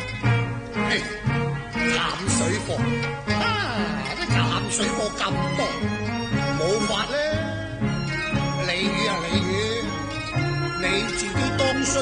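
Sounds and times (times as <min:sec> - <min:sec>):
melody with sliding notes: 0:00.0 - 0:12.0.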